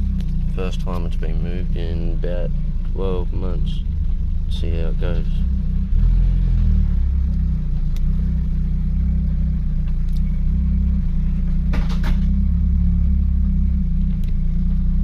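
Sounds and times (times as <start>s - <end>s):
straight-six engine running: 0.0s - 15.0s.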